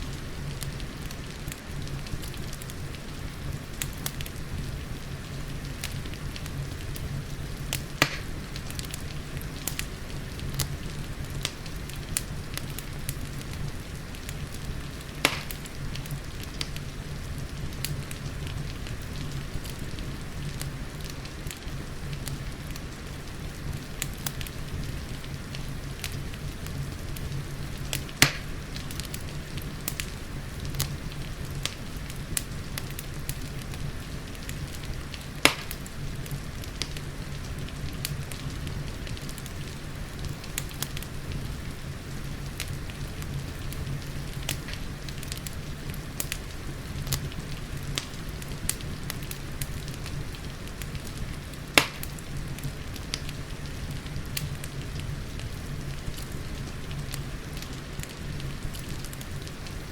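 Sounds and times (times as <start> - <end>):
rain: 0.0 - 59.9
wood fire crackling and popping: 0.0 - 59.9.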